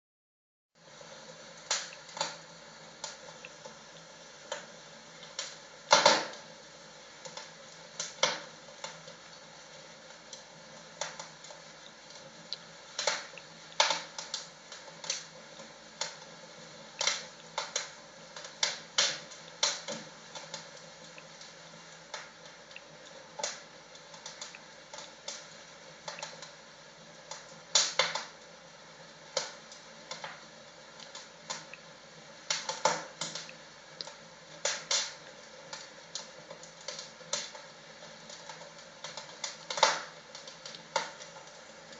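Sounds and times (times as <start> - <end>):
faint steady hiss: 0.8 - 41.9
fire crackling and popping: 0.8 - 41.9.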